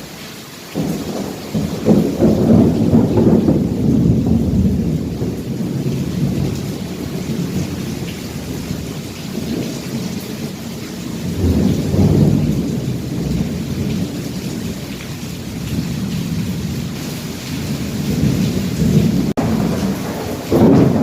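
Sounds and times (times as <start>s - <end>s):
heavy rain: 0.0s - 21.0s
thunder rumbling: 0.8s - 21.0s.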